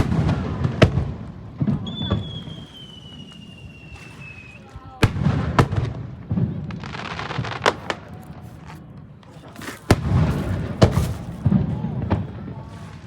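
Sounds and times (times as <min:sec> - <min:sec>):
firework bangs and booms: 0:00.0 - 0:13.0
firework crackling: 0:00.0 - 0:13.0.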